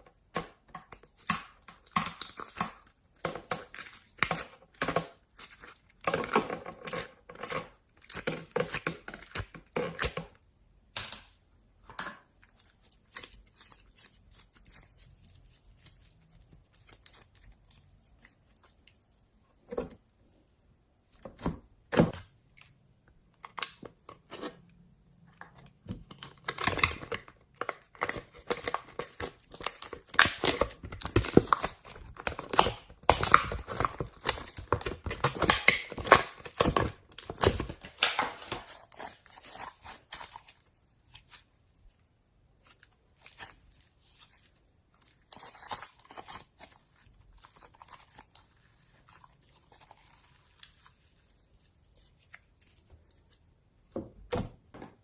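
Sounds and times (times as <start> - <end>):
slime squishing with sticky crackles: 0.0 - 55.0.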